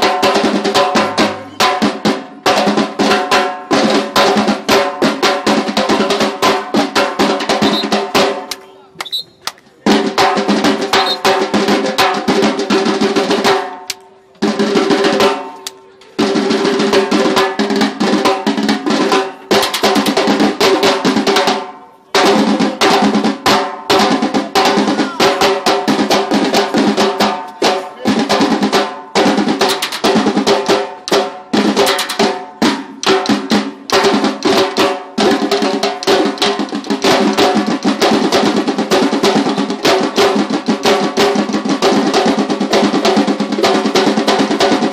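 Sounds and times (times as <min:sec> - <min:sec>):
samba drums playing: 0:00.0 - 0:08.6, 0:09.2 - 0:15.6, 0:16.2 - 0:44.9.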